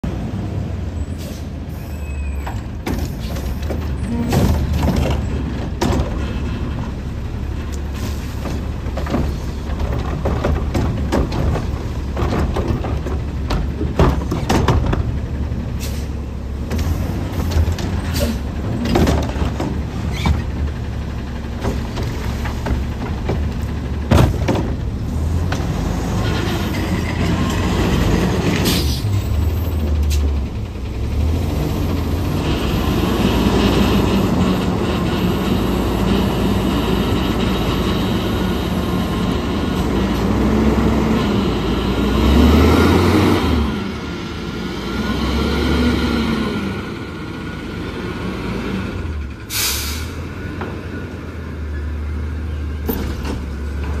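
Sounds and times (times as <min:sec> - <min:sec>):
garbage truck diesel engine revving: 0:02.6 - 0:54.0.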